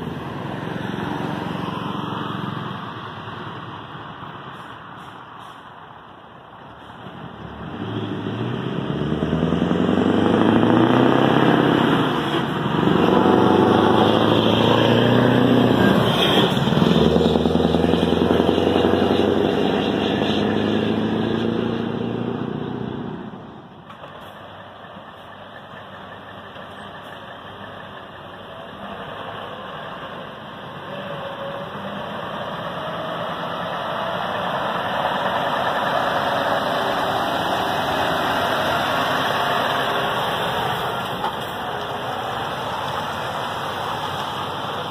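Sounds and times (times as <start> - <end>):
second lorry engine approaching: 0.0 - 44.9
lorry diesel engine pulling away: 6.7 - 44.9.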